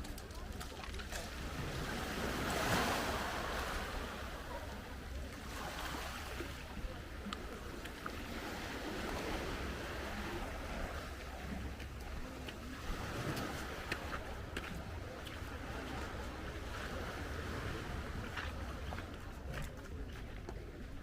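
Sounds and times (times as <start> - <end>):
waves washing onto shore: 0.0 - 21.0.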